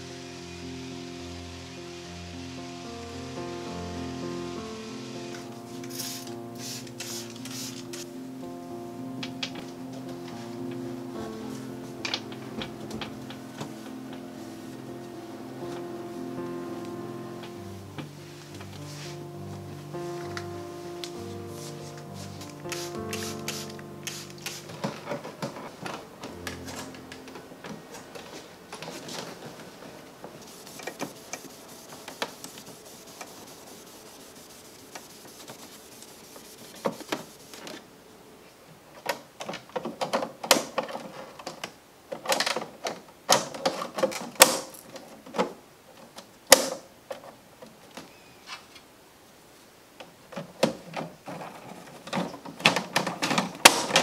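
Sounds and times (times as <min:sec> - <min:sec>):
soft hiss: 0:00.0 - 0:39.4, 0:44.2 - 0:54.0.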